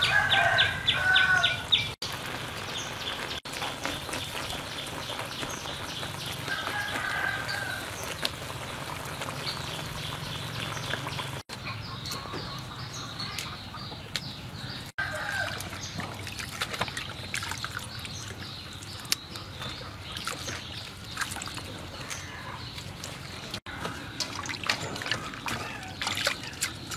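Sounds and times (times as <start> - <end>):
birds chirping: 0.0 - 26.9
water trickling and splashing: 0.0 - 26.9.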